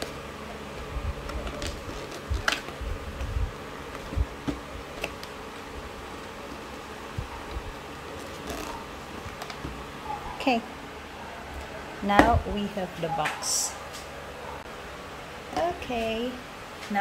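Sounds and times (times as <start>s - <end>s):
steady buzzing hum: 0.0s - 17.0s.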